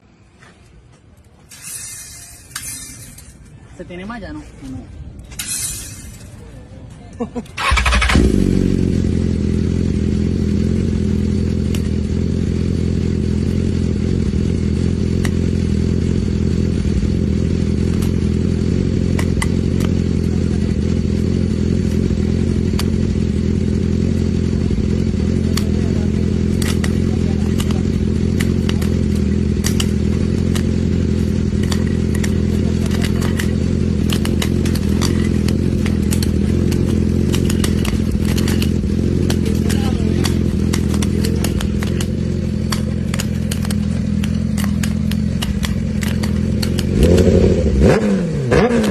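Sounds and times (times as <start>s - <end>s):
motorcycle engine idling: 4.9s - 48.9s.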